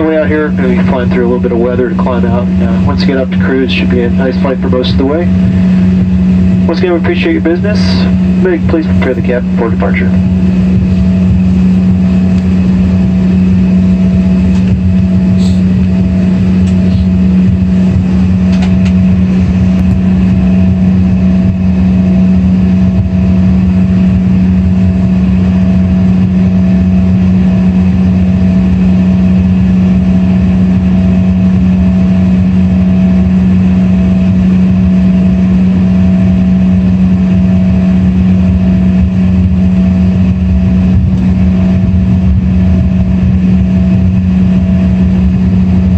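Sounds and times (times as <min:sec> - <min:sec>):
jet engines droning: 0:00.0 - 0:45.9
pulsing high engine tone: 0:00.0 - 0:45.9.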